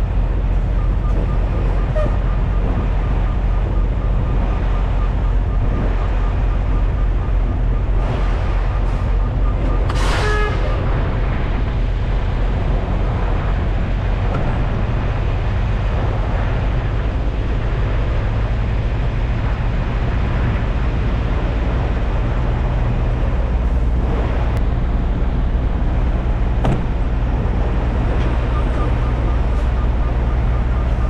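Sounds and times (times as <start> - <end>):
diesel truck engine drone: 0.0 - 31.0
road noise: 0.0 - 31.0.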